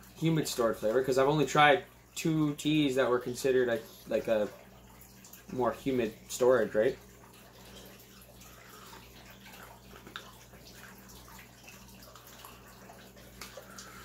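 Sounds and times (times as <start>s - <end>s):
aquarium filter water trickling: 0.0s - 14.0s
low steady hum: 0.0s - 14.0s.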